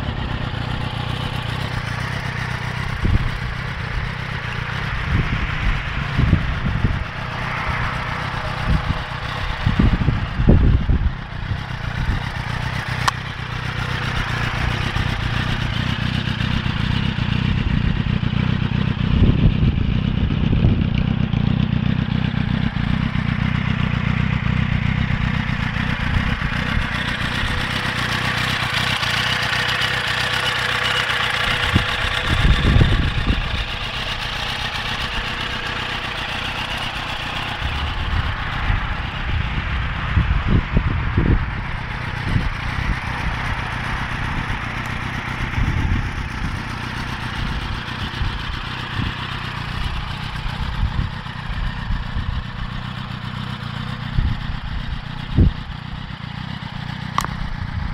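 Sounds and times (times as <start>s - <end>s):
wind buffeting microphone: 0.0s - 29.3s, 30.2s - 53.1s, 53.9s - 56.0s
motorcycle engine idling: 0.0s - 57.9s.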